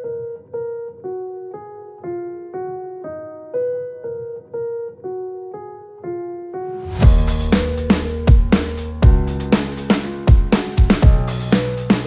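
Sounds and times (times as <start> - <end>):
keyboard melody: 0.0 - 12.0.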